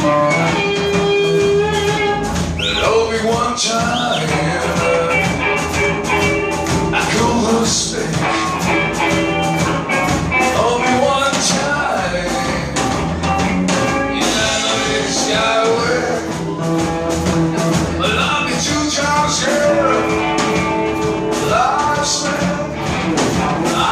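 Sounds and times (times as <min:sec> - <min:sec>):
person singing: 0:00.0 - 0:09.2, 0:10.3 - 0:13.0, 0:13.9 - 0:23.9
rock and roll band playing: 0:00.0 - 0:23.9.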